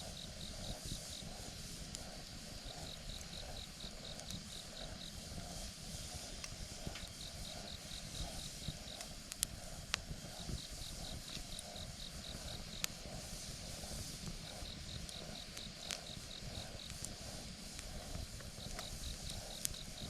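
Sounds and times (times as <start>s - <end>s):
insect chirping: 0.0s - 20.0s
campfire crackling and popping: 0.1s - 20.0s.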